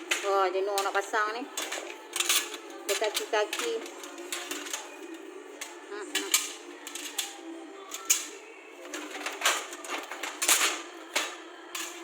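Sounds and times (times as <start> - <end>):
metal rack parts clattering: 0.0 - 12.0.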